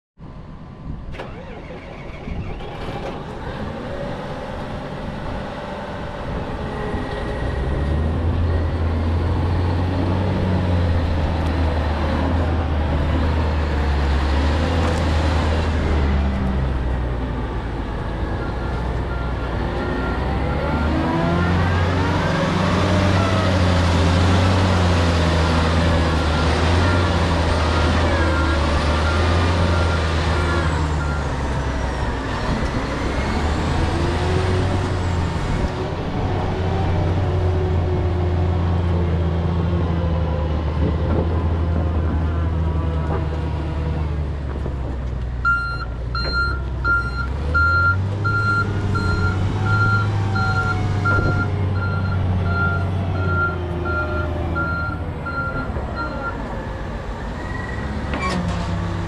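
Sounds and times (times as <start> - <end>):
diesel engine revving: 1.1 - 59.0.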